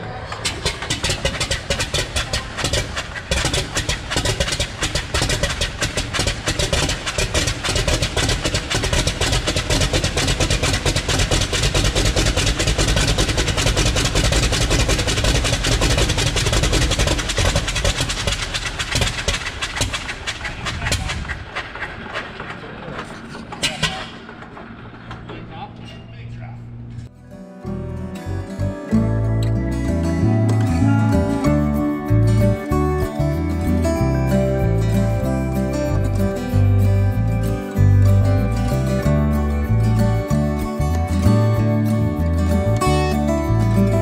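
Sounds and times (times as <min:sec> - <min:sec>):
radial aircraft engine running: 0:00.0 - 0:27.1, 0:28.6 - 0:44.0.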